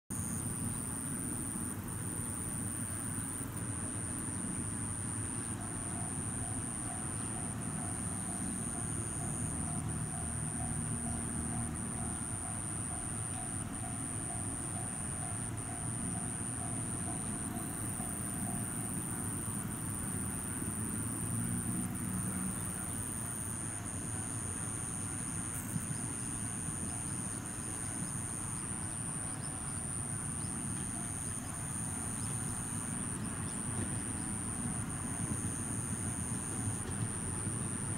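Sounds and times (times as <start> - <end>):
high-pitched insect whine: 0.2 - 37.9
distant level-crossing bell: 4.9 - 21.0, 22.5 - 37.9.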